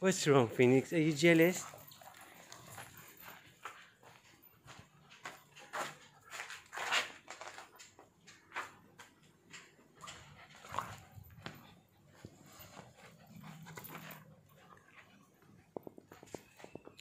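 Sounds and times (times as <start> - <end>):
dogs playing: 0.2 - 17.0.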